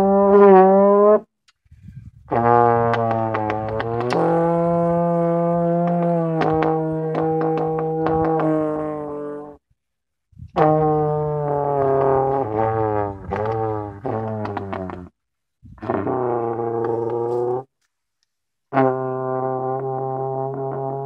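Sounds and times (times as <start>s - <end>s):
trombone sliding blasts: 0.0s - 9.7s, 10.4s - 17.8s, 18.7s - 21.0s.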